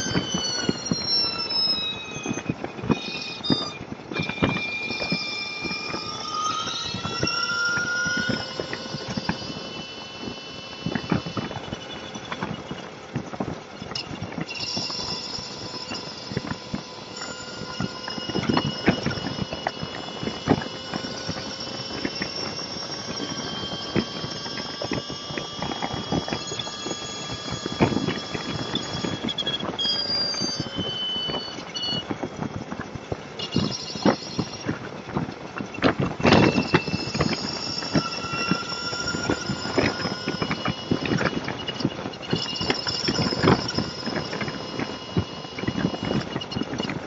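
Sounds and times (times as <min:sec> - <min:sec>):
motorcycle engine whining: 0:00.0 - 0:47.0.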